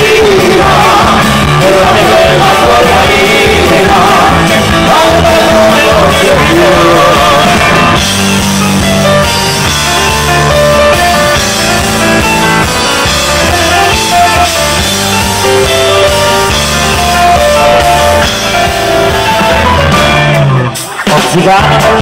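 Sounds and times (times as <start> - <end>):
live rock band instrumental: 0.0 - 22.0.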